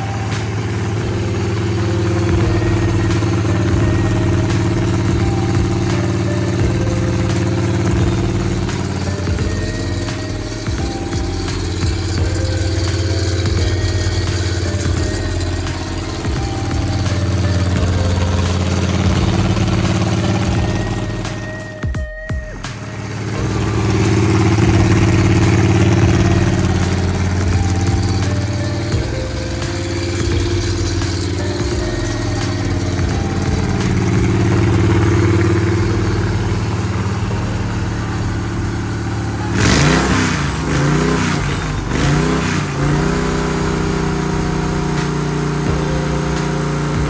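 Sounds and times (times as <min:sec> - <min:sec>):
engine running and revving: 0:00.0 - 0:47.0.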